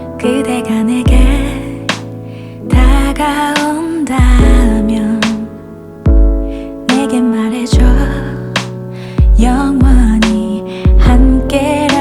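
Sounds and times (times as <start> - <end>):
person singing: 0.0 - 2.0, 2.6 - 5.6, 6.9 - 12.0
slow soft ballad music: 0.0 - 12.0.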